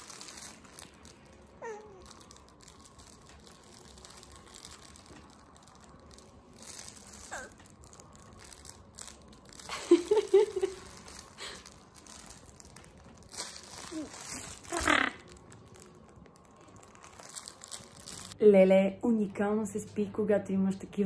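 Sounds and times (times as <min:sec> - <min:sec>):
cloth book crinkling: 0:00.0 - 0:18.4.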